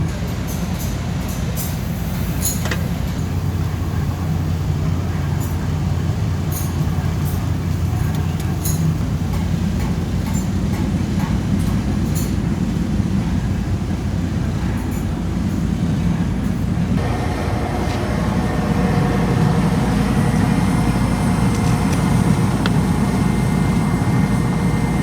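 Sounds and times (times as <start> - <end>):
workshop equipment rumbling: 0.0 - 25.0.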